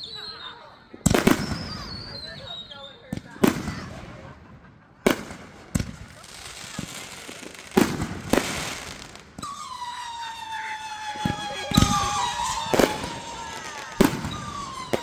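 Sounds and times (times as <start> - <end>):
firework whistle: 0.0 - 3.1, 5.8 - 15.0
firework bangs with crackle: 1.0 - 15.0.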